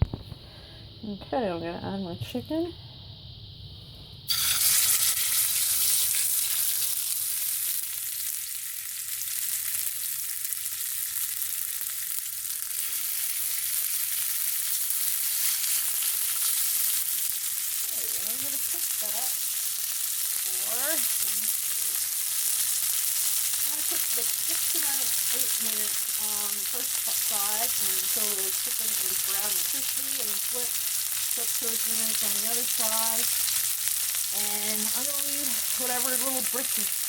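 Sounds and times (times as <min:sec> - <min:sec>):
chicken sizzling in frying pan: 0:04.3 - 0:37.0.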